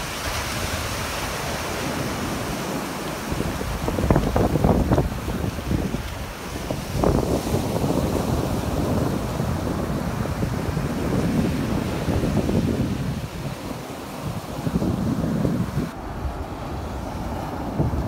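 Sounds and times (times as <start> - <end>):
breaking surf: 0.0 - 18.0
wind rumbling on microphone: 0.0 - 18.0.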